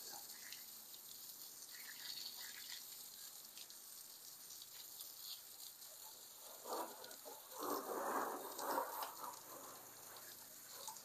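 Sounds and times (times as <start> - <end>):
faint water hiss: 0.0 - 11.0.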